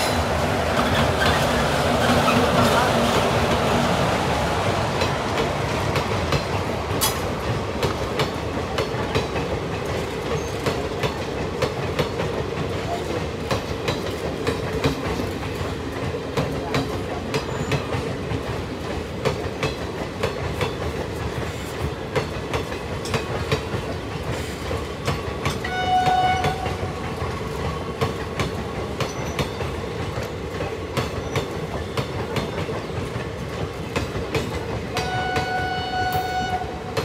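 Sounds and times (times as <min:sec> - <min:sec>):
train wheels clacking on rails: 0:00.0 - 0:37.0.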